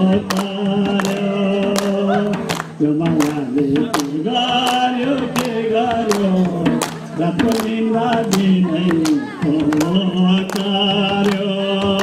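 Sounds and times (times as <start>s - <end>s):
men singing together: 0.0s - 12.0s
sharp claps: 0.1s - 12.0s.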